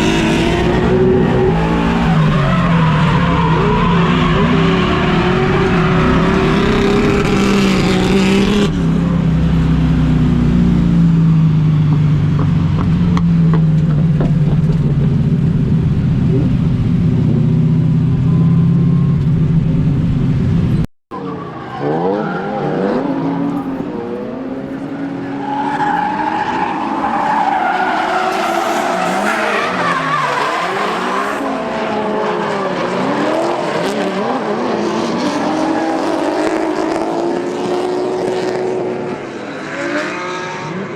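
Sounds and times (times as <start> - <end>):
tyres skidding: 0.0 - 38.3
car engines revving: 0.0 - 40.9.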